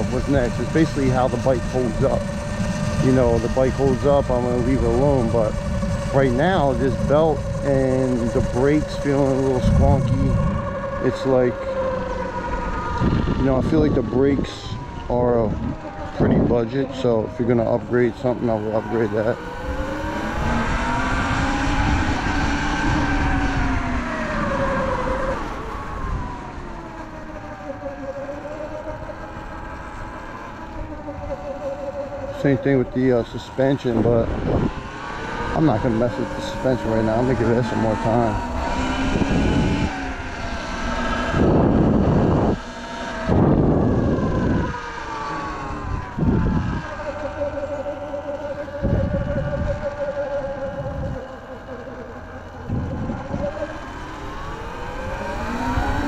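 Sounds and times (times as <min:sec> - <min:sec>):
electric motor whine: 0:00.0 - 0:56.0
wind and tyre rumble: 0:00.0 - 0:56.0.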